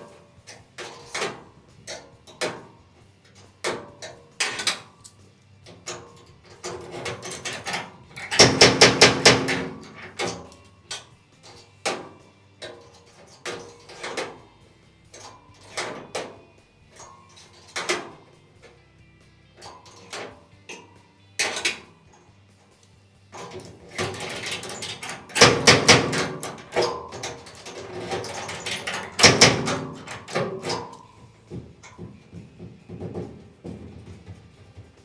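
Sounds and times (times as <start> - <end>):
metal tools clanking: 0.0 - 18.8, 19.4 - 35.0.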